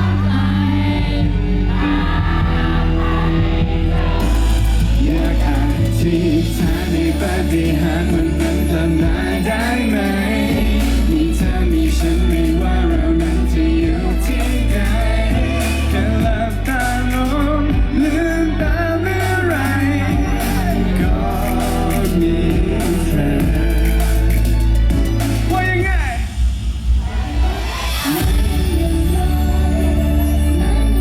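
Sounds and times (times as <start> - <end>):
person singing: 0.0 - 24.6, 27.9 - 31.0
pop band playing live: 0.0 - 26.5, 27.4 - 31.0
heavy bass line: 0.0 - 31.0.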